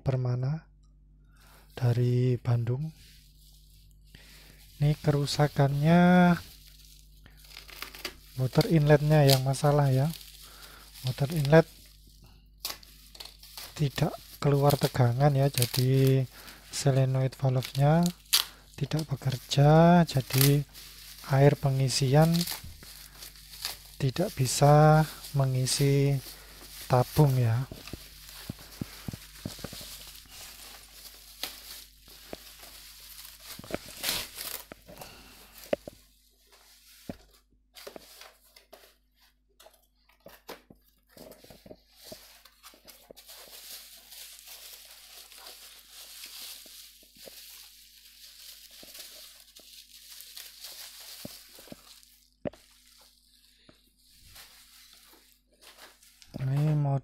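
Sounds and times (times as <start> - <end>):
bubble wrap crinkling: 2.7 - 57.0.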